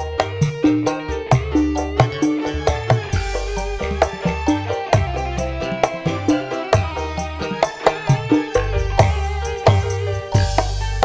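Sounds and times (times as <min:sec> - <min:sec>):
band playing live: 0:00.0 - 0:11.0
electric guitar: 0:00.0 - 0:11.0
keyboards: 0:00.0 - 0:11.0
steady bass beat: 0:00.0 - 0:11.0.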